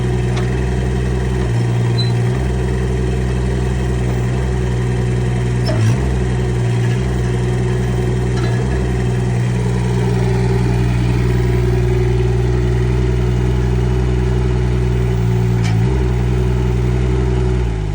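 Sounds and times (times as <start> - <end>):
excavator engine running: 0.0 - 17.9.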